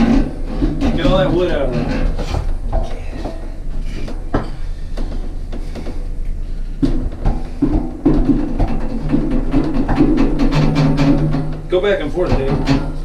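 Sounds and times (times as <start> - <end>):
bathtub knocking and clunking: 0.0 - 6.0, 6.8 - 13.0.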